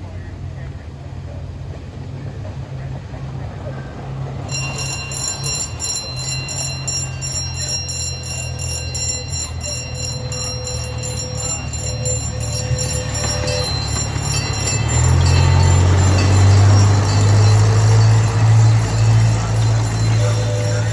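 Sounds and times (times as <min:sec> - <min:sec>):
locomotive engine humming: 0:00.0 - 0:20.9
locomotive bell ringing rapidly: 0:03.1 - 0:20.9.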